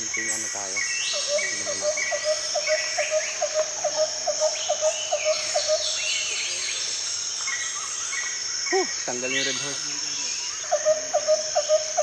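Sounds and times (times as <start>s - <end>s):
birds chirping: 0.0s - 12.0s
insects droning: 0.0s - 12.0s.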